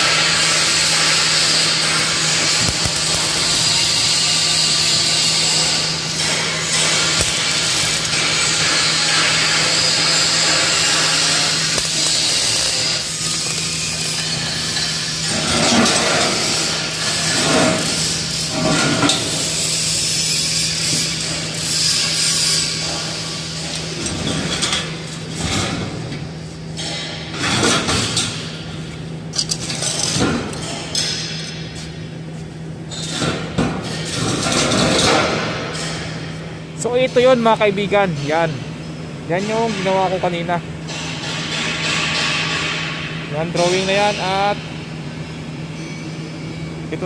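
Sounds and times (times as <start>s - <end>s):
workshop hum and hiss: 0.0s - 47.0s.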